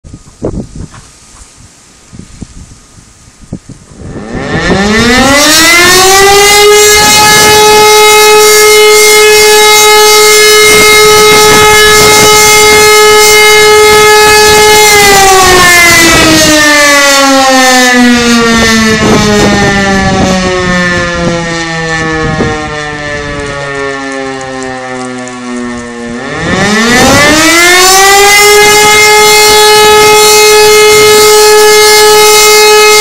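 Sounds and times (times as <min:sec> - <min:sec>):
electromechanical siren wailing: 0:03.8 - 0:33.0.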